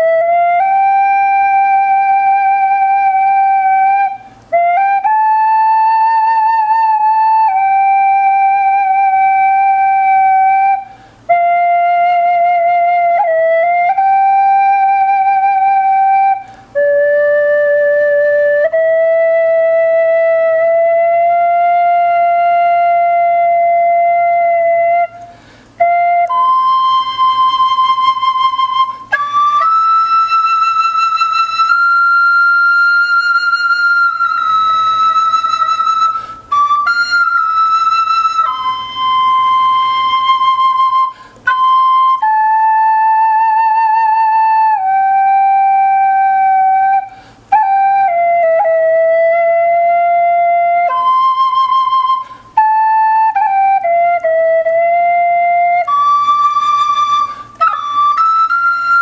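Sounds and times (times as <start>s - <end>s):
wooden flute slow melody: 0.0s - 59.0s.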